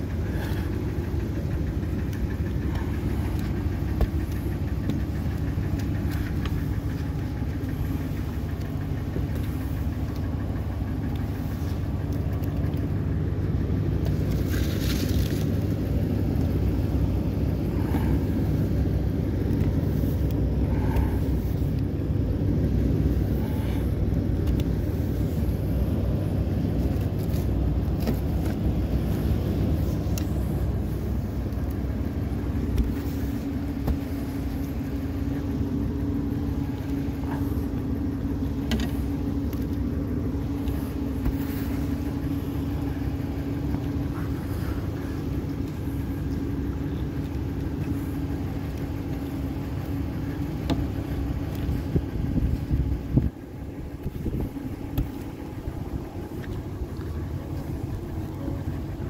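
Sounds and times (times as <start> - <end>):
snow brush sweeping windshield: 0.0 - 59.0
steady hum: 0.0 - 59.0
steady low rumble: 0.0 - 59.0.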